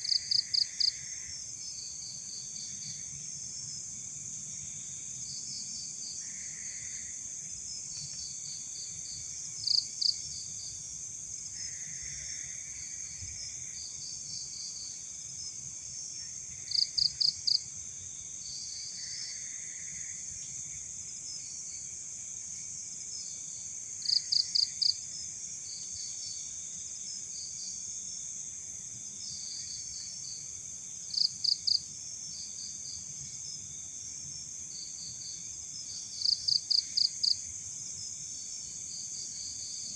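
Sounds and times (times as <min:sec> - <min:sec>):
cricket chirps: 0:00.0 - 0:39.9
faint pulsed insect calls: 0:00.0 - 0:39.9
insects trilling: 0:00.0 - 0:39.9.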